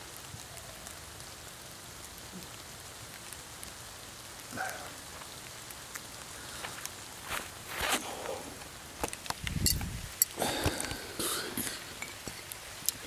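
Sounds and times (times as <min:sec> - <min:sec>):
rain falling through leaves: 0:00.0 - 0:13.0.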